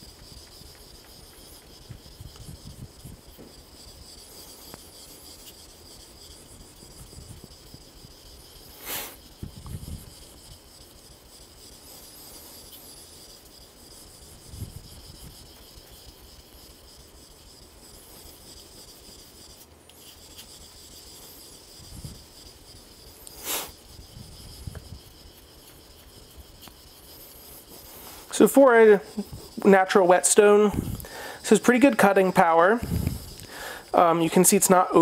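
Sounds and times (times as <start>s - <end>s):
knife scraping on whetstone: 0.0s - 35.0s
sharp scraping sounds: 0.0s - 35.0s.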